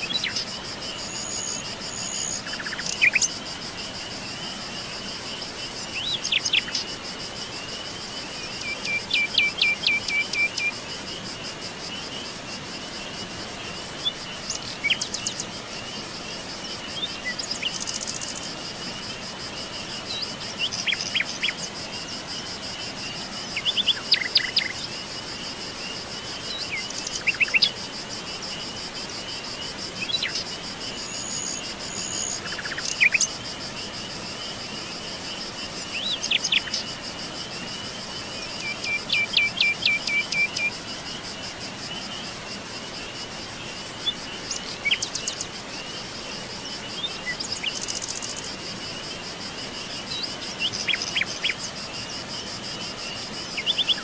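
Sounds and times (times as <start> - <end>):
high-pitched insect trill: 0.0 - 54.0.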